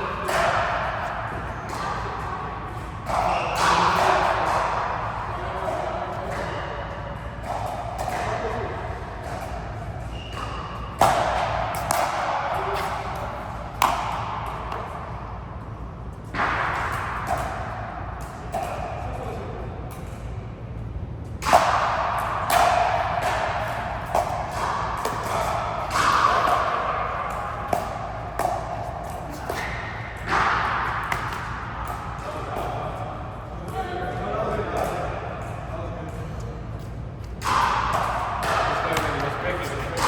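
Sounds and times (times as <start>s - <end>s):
ball hits echoing in hall: 0.0s - 40.0s.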